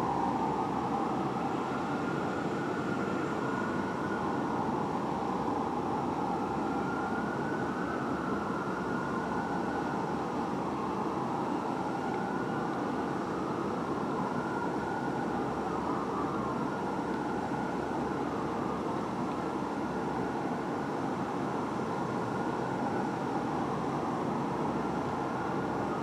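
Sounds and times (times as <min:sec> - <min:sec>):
city traffic: 0:00.0 - 0:26.0
fire truck siren wailing: 0:00.0 - 0:26.0.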